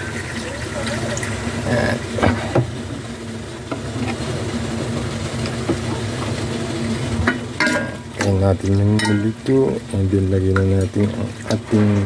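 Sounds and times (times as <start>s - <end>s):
chicken sizzling in pot: 0.0s - 12.0s.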